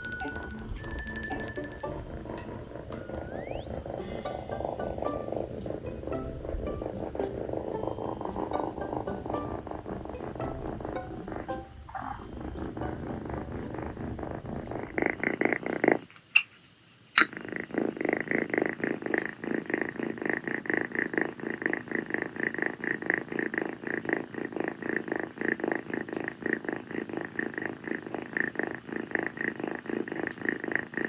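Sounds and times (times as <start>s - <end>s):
kitten purring: 0.0s - 16.2s, 17.2s - 31.0s.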